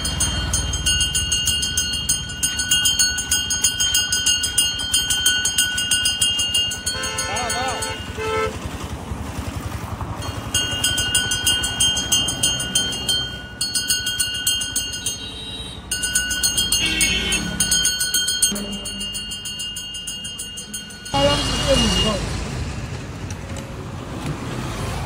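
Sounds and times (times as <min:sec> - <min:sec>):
brass hand bell ringing: 0:00.0 - 0:08.5, 0:10.2 - 0:22.3.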